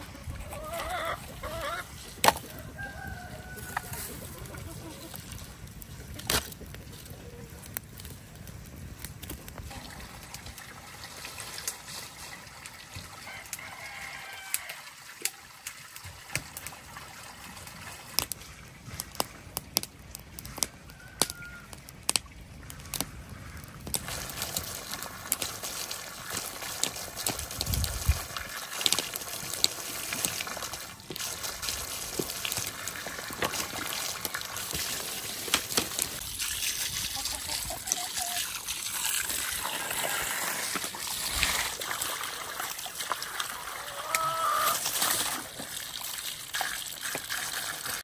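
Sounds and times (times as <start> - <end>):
water from hose splashing on rocks: 0.0 - 48.0.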